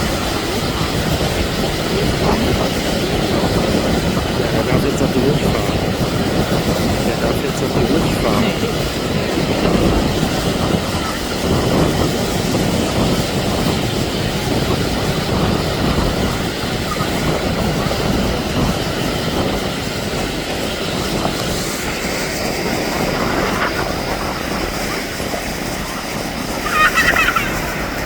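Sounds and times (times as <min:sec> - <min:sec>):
turboprop plane drone: 0:00.0 - 0:28.0.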